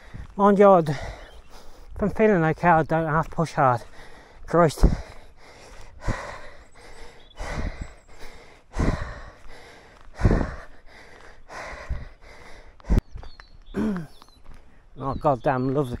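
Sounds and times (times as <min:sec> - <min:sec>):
man breathing heavily: 0:00.0 - 0:02.0, 0:03.7 - 0:15.0.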